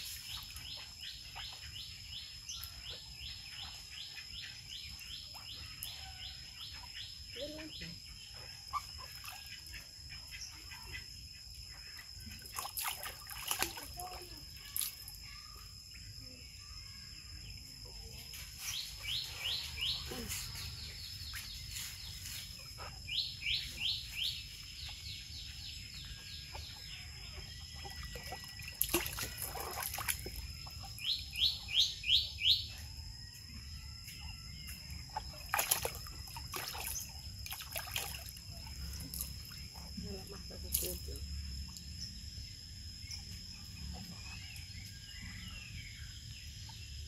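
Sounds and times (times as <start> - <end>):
bird singing: 0.0 - 47.0.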